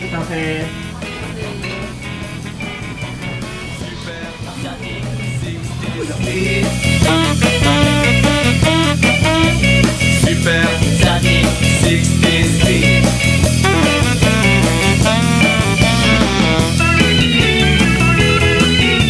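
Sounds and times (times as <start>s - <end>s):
upbeat instrumental music with guitar: 0.0s - 19.0s.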